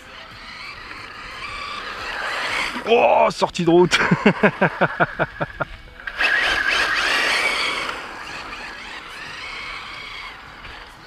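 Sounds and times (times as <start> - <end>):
electric motor whining: 0.0 - 3.3, 4.0 - 11.0.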